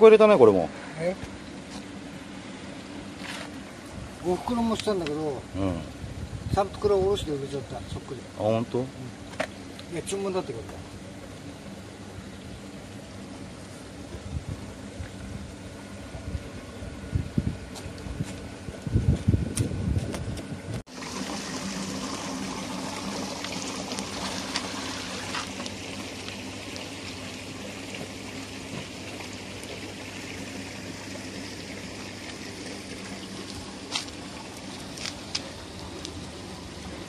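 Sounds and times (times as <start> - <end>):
water trickling into ponds: 1.0 - 18.6, 20.9 - 37.0.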